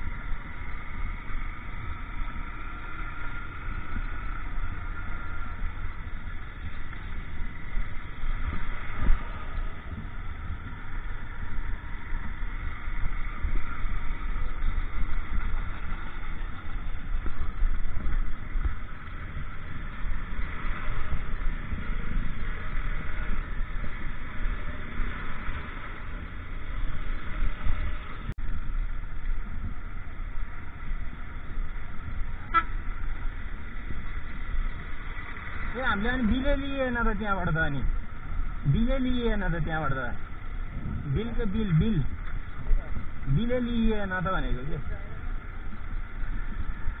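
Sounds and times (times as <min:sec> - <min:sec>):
road noise: 0:00.0 - 0:47.0
wind rumble on microphone: 0:00.0 - 0:47.0.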